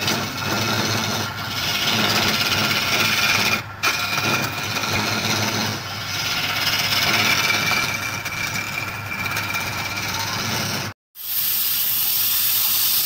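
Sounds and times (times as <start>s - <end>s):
lathe hum: 0.0s - 11.0s
scraper cutting wood on lathe: 0.0s - 11.0s.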